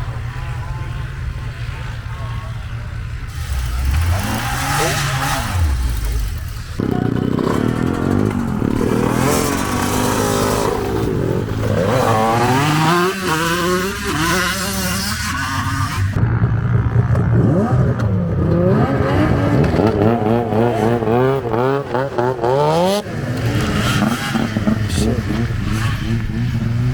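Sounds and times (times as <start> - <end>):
vehicle engines revving: 0.0 - 26.9.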